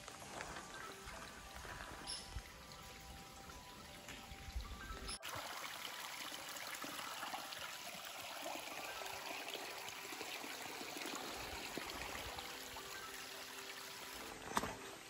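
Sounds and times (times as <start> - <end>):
trickle of running water: 0.0 - 15.0.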